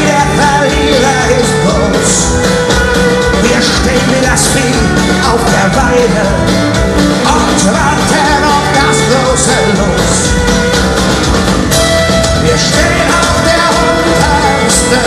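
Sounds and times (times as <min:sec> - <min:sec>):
live metal band playing loud: 0:00.0 - 0:15.0.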